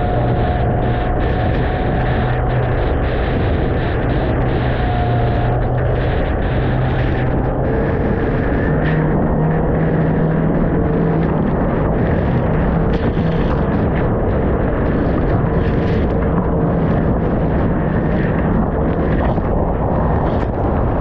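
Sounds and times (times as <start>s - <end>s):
loud rushing wind: 0.0s - 21.0s
outboard motor droning: 0.0s - 21.0s.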